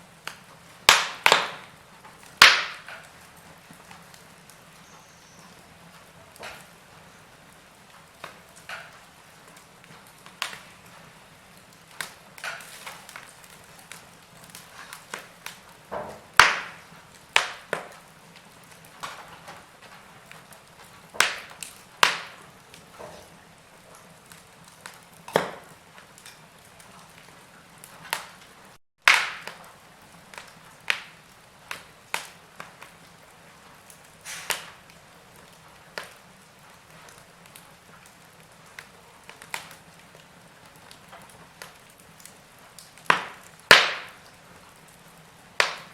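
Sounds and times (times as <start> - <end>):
faint steady hiss: 0.0 - 45.9
wood fire crackling: 0.0 - 45.9.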